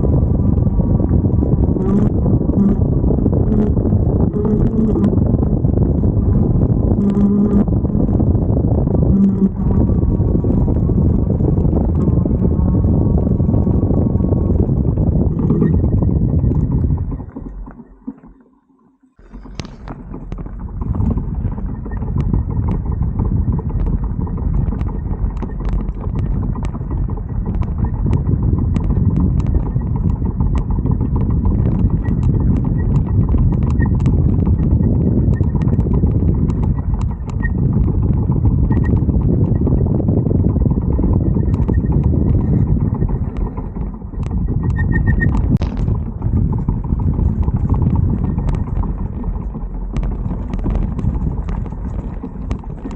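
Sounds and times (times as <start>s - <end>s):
hub motor ticking: 0.0s - 52.9s
wind noise: 0.0s - 52.9s.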